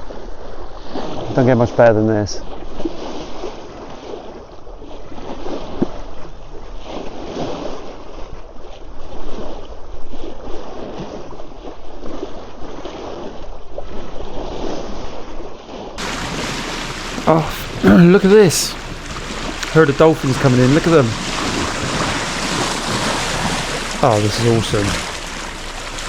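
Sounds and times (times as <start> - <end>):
wind: 0.0 - 26.0
water rushing along a hull: 2.0 - 26.0.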